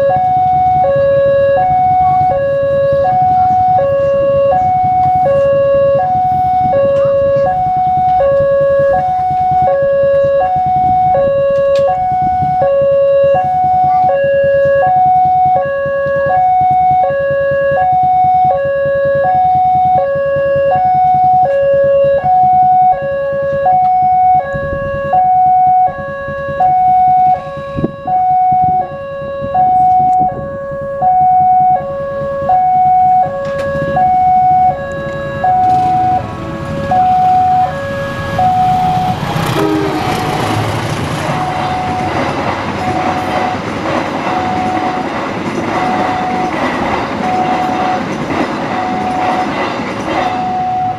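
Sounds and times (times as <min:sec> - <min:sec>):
two-tone crossing alarm: 0:00.0 - 0:50.9.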